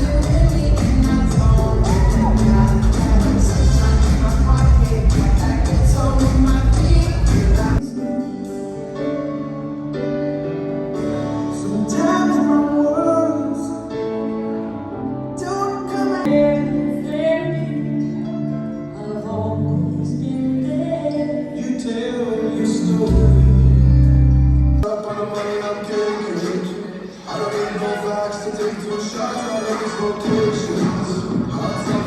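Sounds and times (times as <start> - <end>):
song with singing voice: 0.0 - 32.0.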